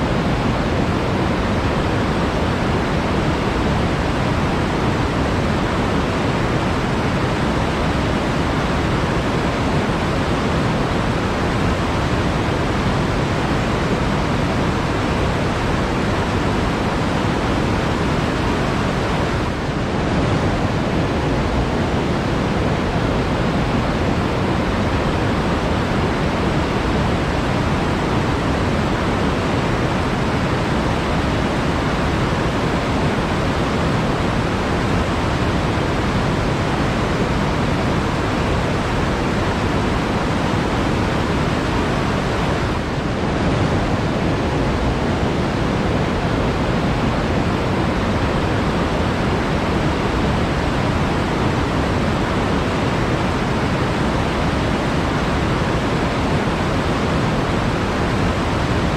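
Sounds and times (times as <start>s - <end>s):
water rushing: 0.0s - 58.9s.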